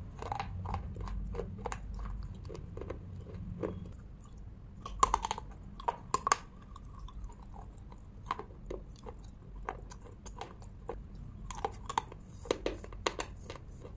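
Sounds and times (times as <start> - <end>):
brittle crunching while chewing: 0.0 - 13.9.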